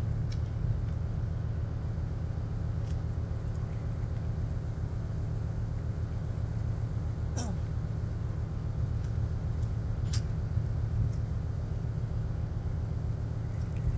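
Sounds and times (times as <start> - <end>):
low motor rumble: 0.0 - 13.9.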